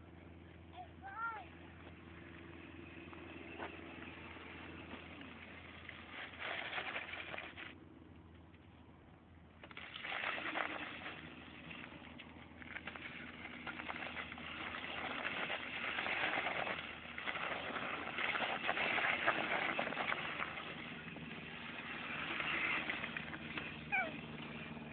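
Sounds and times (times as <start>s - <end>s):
dirt bike engine running: 1.4s - 8.1s, 9.6s - 24.9s.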